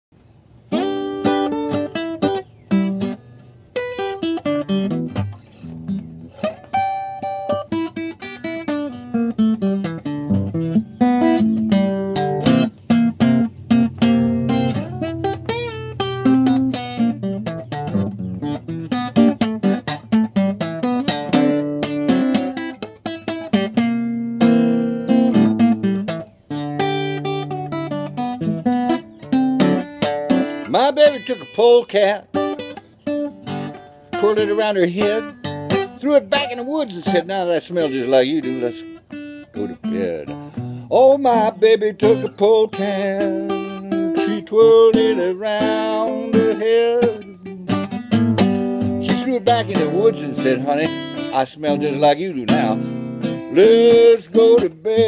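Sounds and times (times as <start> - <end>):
acoustic guitar picking: 0.2 - 55.0.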